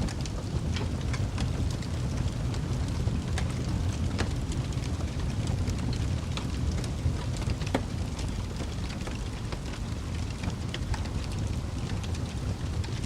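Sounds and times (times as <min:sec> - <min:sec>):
low rumble of burning: 0:00.0 - 0:13.0
wood fire crackling: 0:00.0 - 0:13.0.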